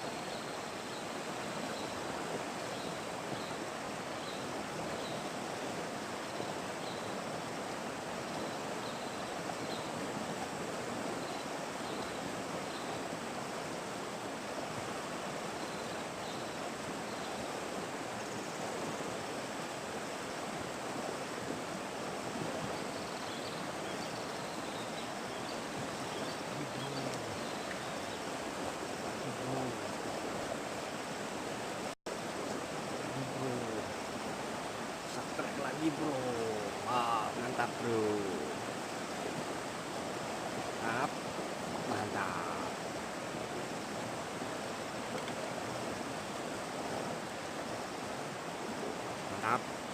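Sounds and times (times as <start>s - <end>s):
river water flowing: 0.0s - 49.9s.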